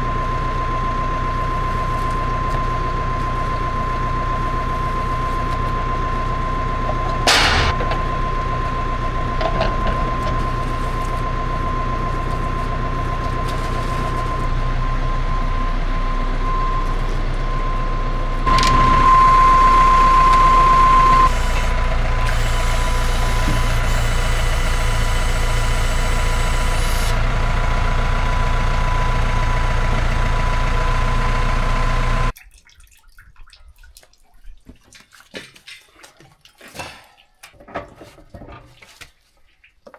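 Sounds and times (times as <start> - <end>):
motor whining: 0.0 - 32.3.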